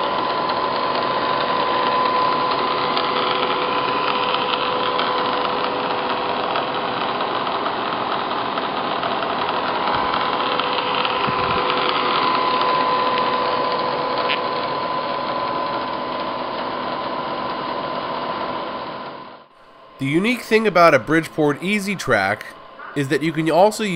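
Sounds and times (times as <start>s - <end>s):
milling machine humming: 0.0s - 23.9s.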